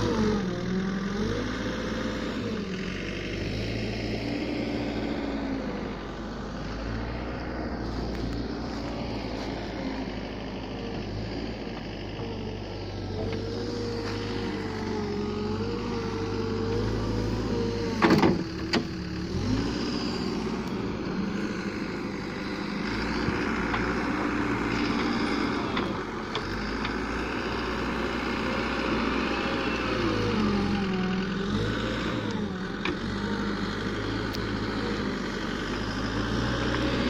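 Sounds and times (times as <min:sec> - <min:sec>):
wheel loader diesel engine revving: 0:00.0 - 0:37.0.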